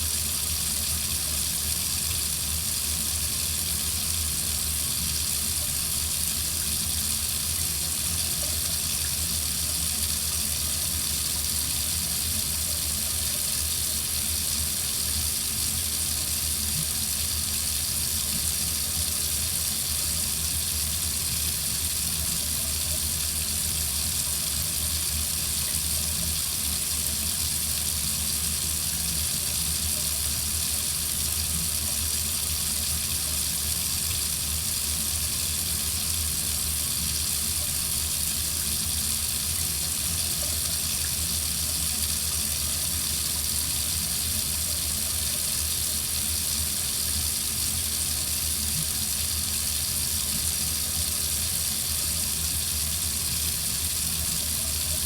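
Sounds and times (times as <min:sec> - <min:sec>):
faucet water running into sink: 0:00.0 - 0:55.0.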